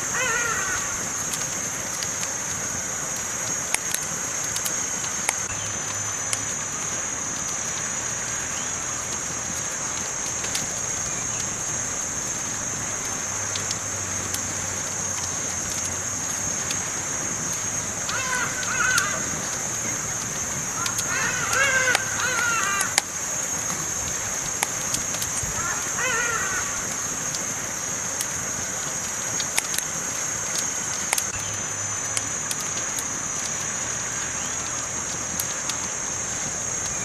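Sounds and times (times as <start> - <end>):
campfire hissing: 0.0 - 37.0
fire crackling pops: 0.0 - 37.0.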